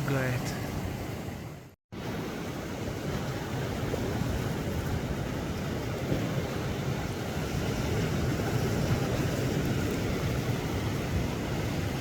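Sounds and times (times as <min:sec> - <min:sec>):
sea surf on shore: 0:00.0 - 0:12.0
wind buffeting microphone: 0:00.0 - 0:12.0.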